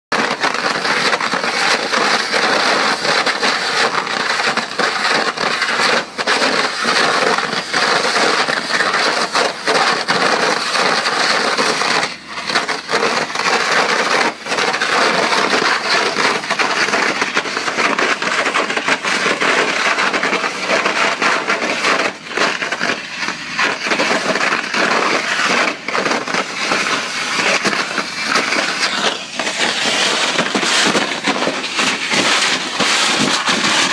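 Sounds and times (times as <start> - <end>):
water jet blasting concrete: 0.1 - 33.9.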